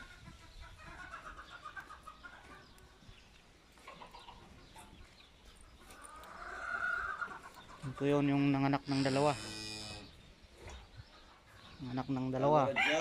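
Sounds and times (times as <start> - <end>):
farmyard birds calling: 0.0 - 13.0.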